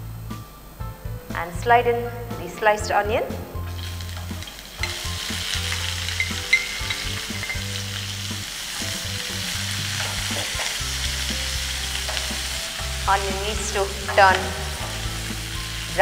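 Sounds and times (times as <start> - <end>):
onion sizzling in oil: 2.5 - 16.0.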